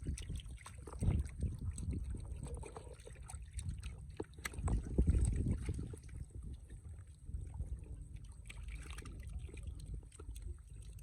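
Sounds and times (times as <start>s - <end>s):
shallow water splashing: 0.0s - 11.0s
small drips and clicks: 0.0s - 11.0s.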